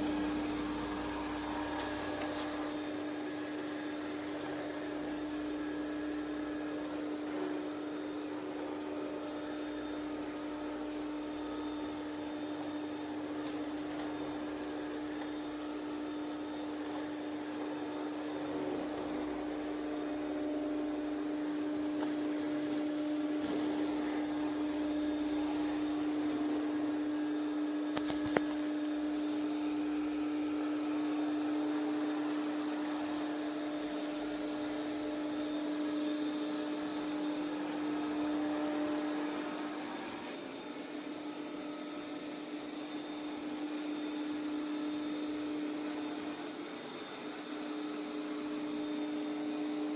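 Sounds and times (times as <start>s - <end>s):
robot vacuum motor hum: 0.0s - 49.9s.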